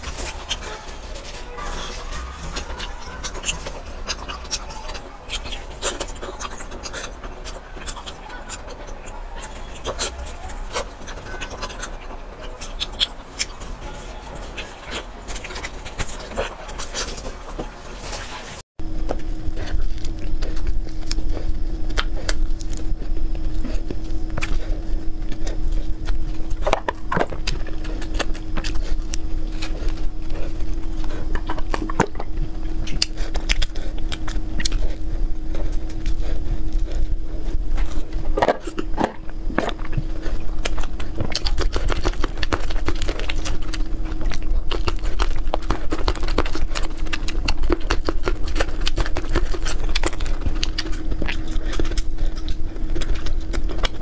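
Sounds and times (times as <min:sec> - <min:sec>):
chewing and biting: 0:00.0 - 0:54.0
low hum: 0:00.0 - 0:54.0
mouth clicks and crunches: 0:00.0 - 0:54.0.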